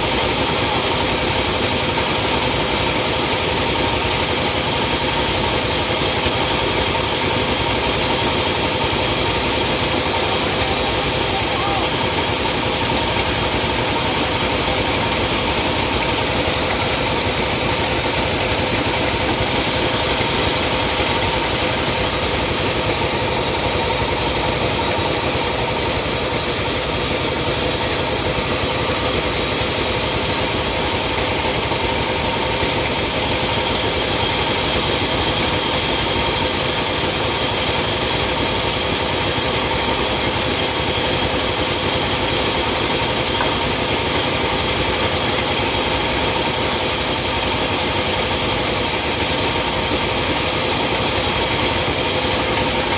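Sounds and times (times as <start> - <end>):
sawmill machinery hum and whine: 0.0 - 52.9.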